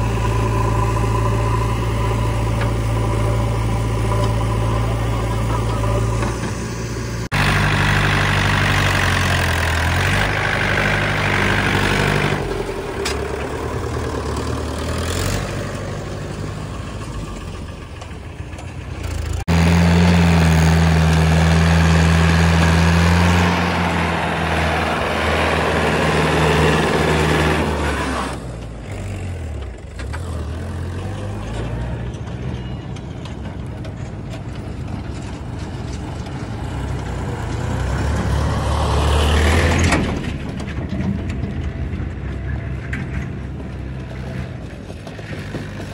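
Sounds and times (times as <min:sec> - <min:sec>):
diesel engines running: 0:00.0 - 0:45.9
tractor engine pulling a trolley: 0:00.0 - 0:45.9.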